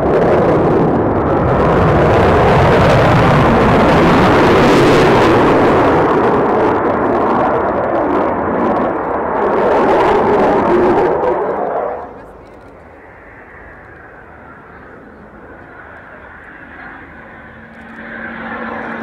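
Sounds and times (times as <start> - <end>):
fighter jet roar overhead: 0.0 - 19.0.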